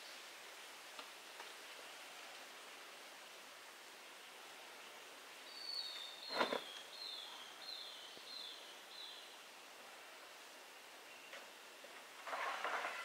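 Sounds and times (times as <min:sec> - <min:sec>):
faint forest hiss: 0:00.0 - 0:13.0.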